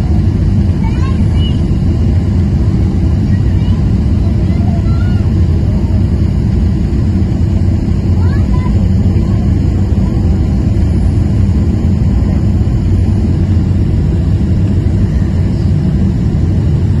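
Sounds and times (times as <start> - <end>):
airliner engines rumbling: 0.0 - 17.0.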